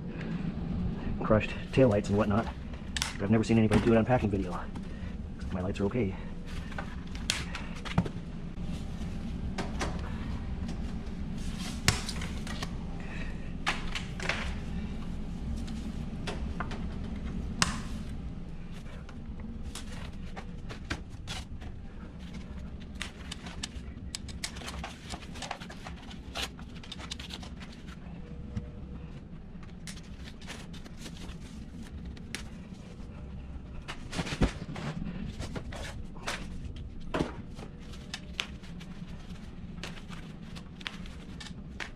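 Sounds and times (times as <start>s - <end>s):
rustling of packing materials: 6.3s - 41.9s.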